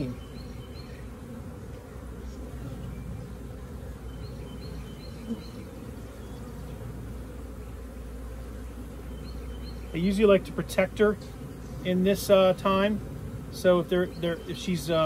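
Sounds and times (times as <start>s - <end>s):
honeybee swarm buzzing: 0.0s - 15.0s.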